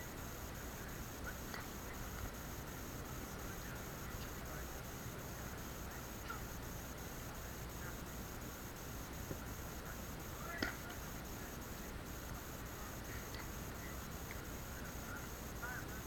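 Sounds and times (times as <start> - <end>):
open-air background hiss: 0.0 - 16.0.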